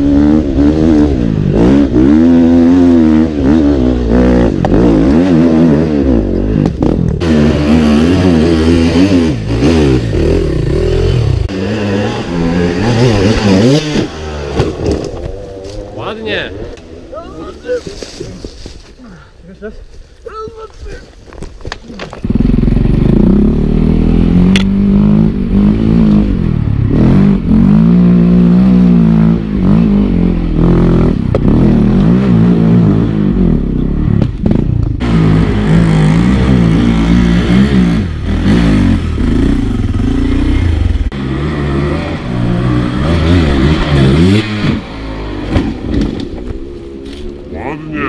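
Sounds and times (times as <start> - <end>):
dirt bike engine revving: 0.0 - 17.6, 22.2 - 48.0.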